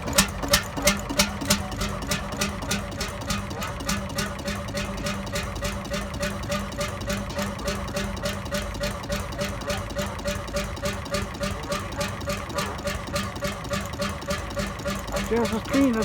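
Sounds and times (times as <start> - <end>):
stationary engine running: 0.0 - 16.0.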